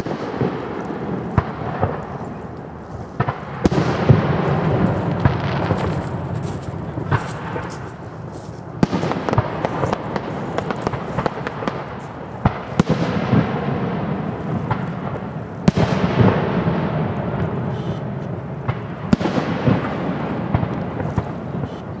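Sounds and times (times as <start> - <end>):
dense rumble of fireworks reports: 0.0 - 22.0
fireworks bursting with sharp bangs: 0.0 - 22.0.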